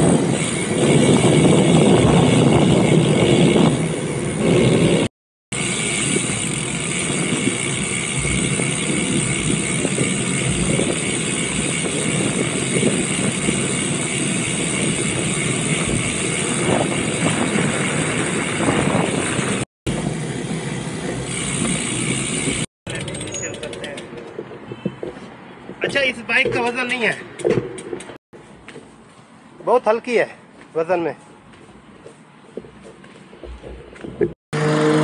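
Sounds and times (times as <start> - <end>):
traffic and road noise: 0.0 - 35.0.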